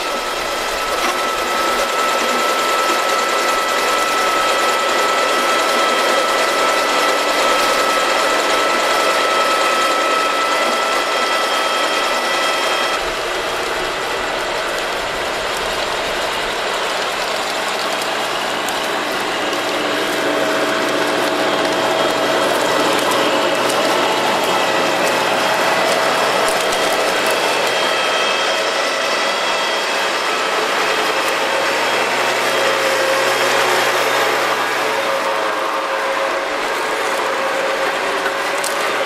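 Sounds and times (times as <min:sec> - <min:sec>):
potato lifter rattle and clatter: 0:00.0 - 0:28.0, 0:29.9 - 0:39.0
steady high whine: 0:00.0 - 0:39.0.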